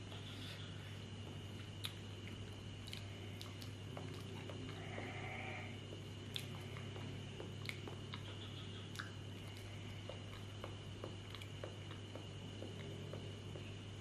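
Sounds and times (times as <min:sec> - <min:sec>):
person chewing soft food: 0:00.0 - 0:14.0
steady low hum: 0:00.0 - 0:14.0.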